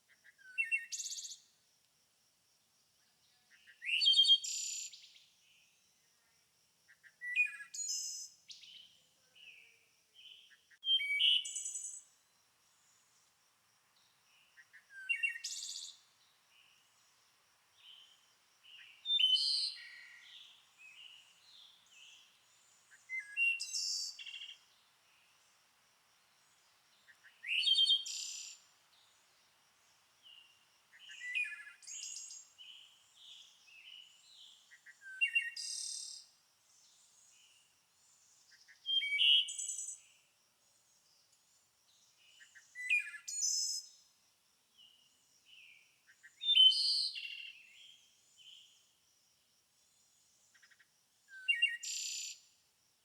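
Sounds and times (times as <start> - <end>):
songbird singing: 0.0 - 1.6, 2.9 - 44.1, 44.7 - 49.0, 49.8 - 52.6.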